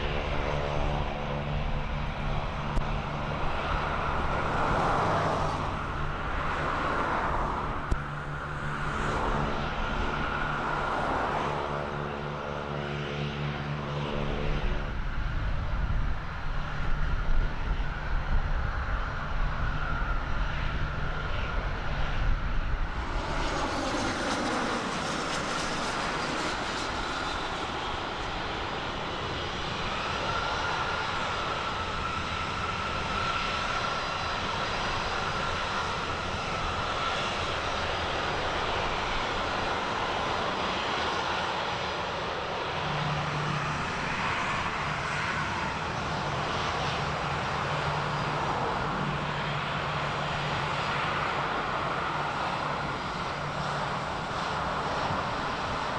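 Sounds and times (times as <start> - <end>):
aeroplane engines rumbling: 0.0 - 55.9
high engine whine: 0.0 - 55.9.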